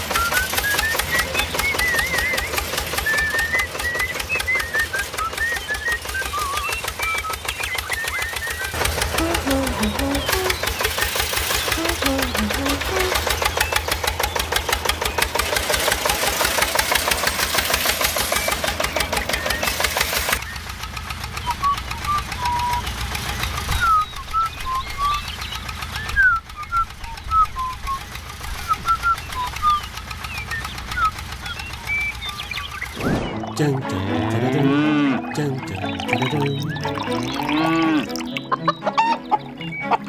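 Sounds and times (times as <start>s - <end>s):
rc car motor pulsing: 0.0s - 33.0s.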